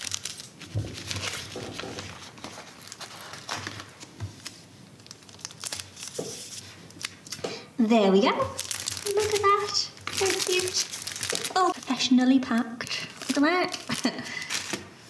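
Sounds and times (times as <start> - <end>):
plastic bag crinkling: 0.0 - 7.4, 8.4 - 15.0.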